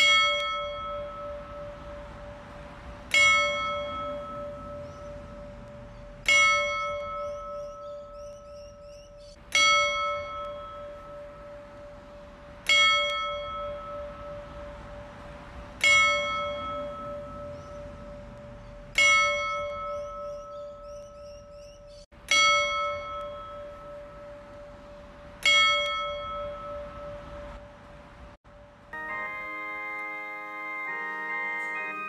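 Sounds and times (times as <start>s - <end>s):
church bell tolling: 0.0s - 32.0s.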